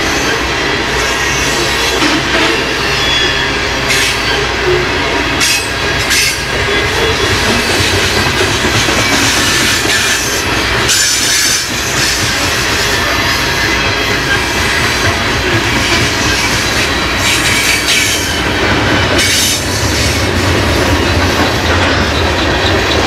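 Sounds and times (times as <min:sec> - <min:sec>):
freight train rumbling past: 0:00.0 - 0:23.0
wheels clacking at rail joints: 0:03.7 - 0:23.0.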